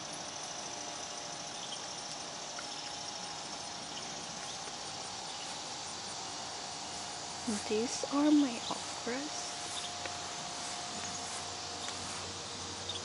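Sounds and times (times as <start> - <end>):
faint high-pitched hum: 0.0 - 13.0
steady hiss: 0.0 - 13.0.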